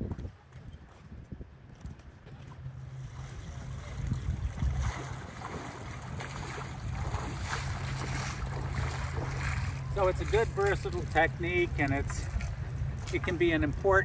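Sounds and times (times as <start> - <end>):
steady low rumble: 1.2 - 14.0
water splashing from wading steps: 2.3 - 13.8.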